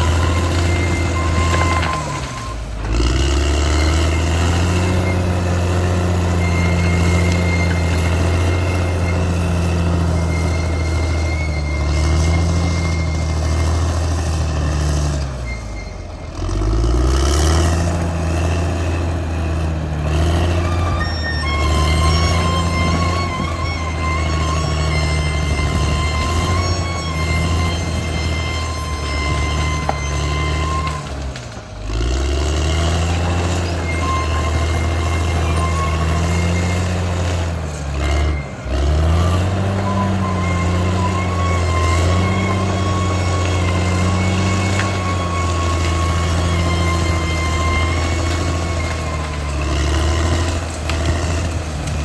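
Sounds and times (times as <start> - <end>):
bulldozer diesel engine under load: 0.0 - 52.0.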